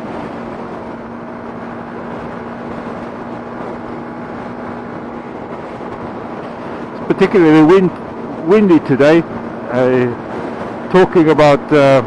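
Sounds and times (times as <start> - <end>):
motorcycle engine drone: 0.0 - 12.0
wind and road noise: 0.0 - 12.0.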